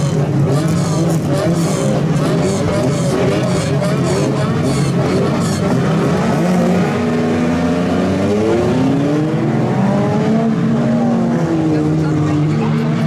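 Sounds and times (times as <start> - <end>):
car engines accelerating: 0.0 - 13.0.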